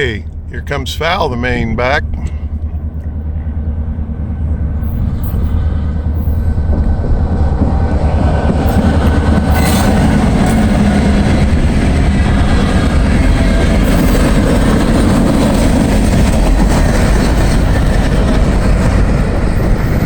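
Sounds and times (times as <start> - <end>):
diesel locomotive rumbling: 0.0 - 20.0
train wheels rumbling: 0.0 - 20.0.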